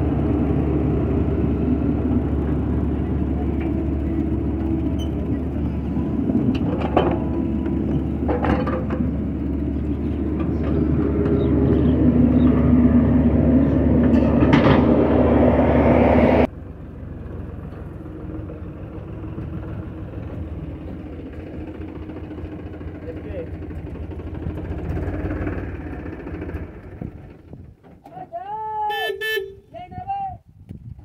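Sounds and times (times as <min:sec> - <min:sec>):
excavator diesel engine: 0:00.0 - 0:29.6.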